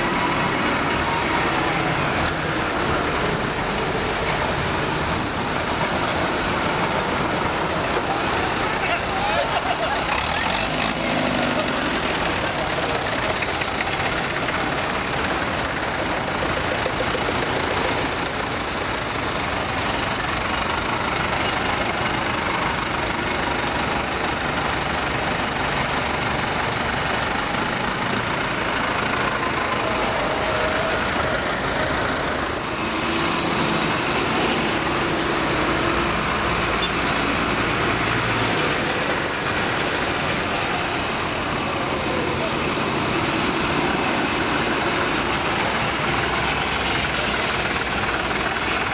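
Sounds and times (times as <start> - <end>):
tractor diesel engines driving past: 0.0 - 48.9.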